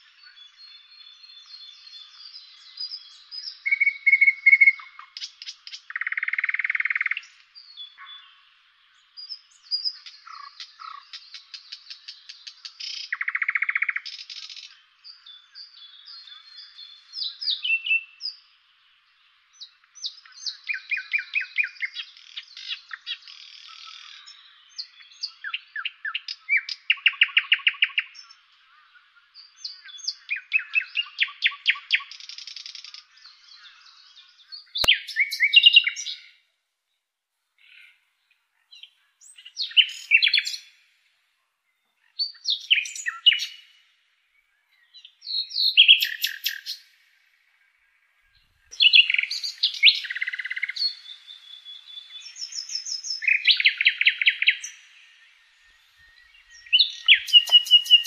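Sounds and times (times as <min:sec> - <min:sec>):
bird song phrases: 0:00.0 - 0:58.0
songbirds trilling and chirping: 0:00.0 - 0:58.0.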